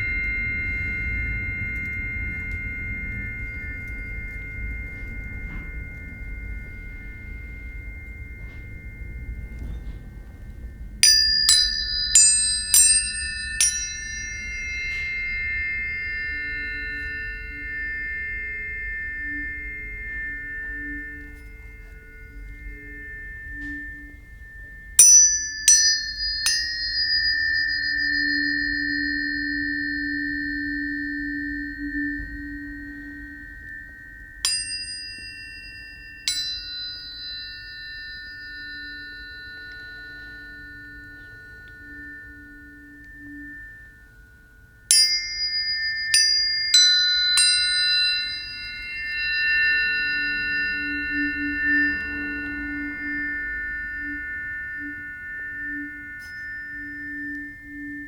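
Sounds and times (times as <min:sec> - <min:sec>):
tuning forks struck and ringing: 0:00.0 - 0:58.0.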